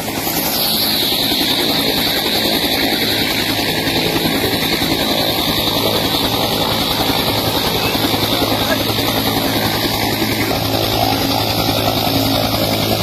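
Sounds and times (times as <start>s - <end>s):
helicopter turbine whine: 0.0s - 13.0s
rotor beating: 0.0s - 13.0s.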